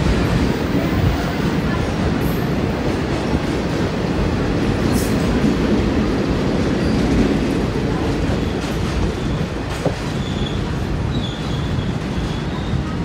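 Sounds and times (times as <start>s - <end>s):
train wheels clattering: 0.0s - 13.0s.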